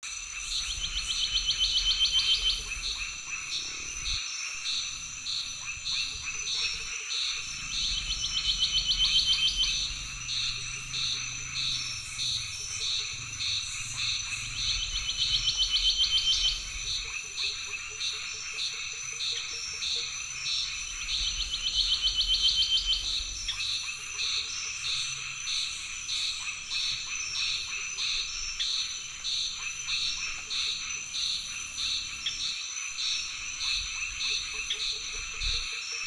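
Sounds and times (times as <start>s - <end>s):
high-pitched insect buzz: 0.1s - 35.7s
short regular frog calls: 0.2s - 36.0s
frog pulsed trill: 0.3s - 36.0s.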